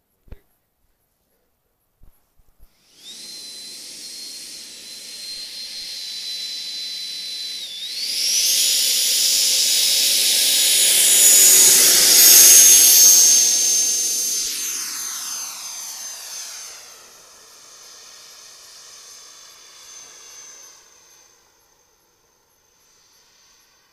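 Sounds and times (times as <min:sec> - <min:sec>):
model jet engine whining: 0:02.6 - 0:23.9.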